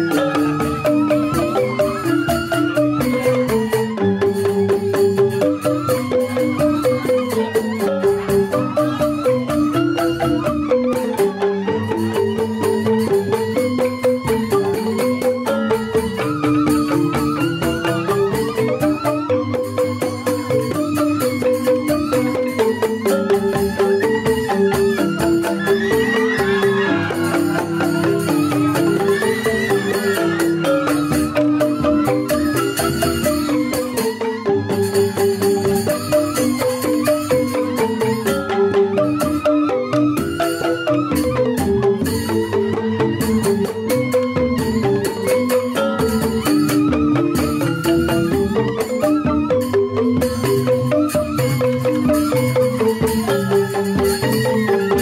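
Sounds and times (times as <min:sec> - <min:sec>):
bamboo flute: 0:00.0 - 0:55.0
bamboo xylophones playing: 0:00.0 - 0:55.0.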